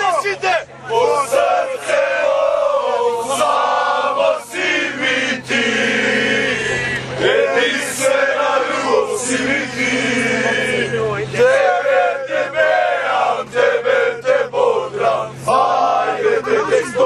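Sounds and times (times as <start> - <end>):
steady low hum: 0.3 - 17.0
men chanting in unison: 0.9 - 17.0.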